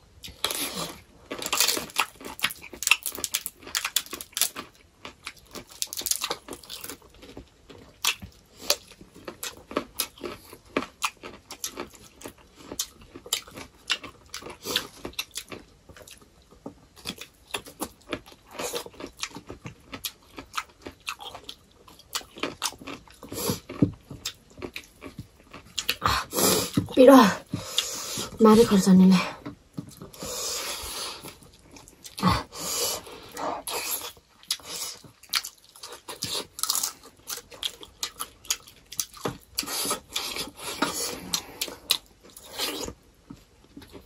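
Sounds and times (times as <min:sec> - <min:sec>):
crunchy chewing: 0:00.2 - 0:28.4, 0:29.7 - 0:44.0.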